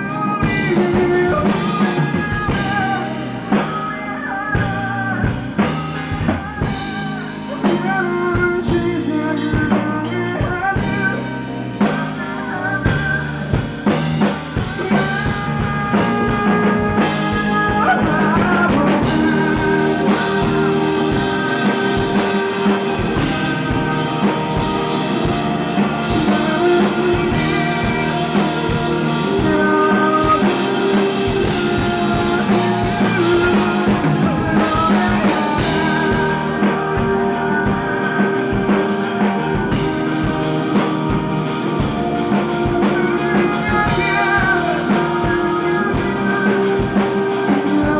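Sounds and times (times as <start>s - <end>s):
person singing: 0.0s - 47.9s
rock band playing live: 0.0s - 47.9s.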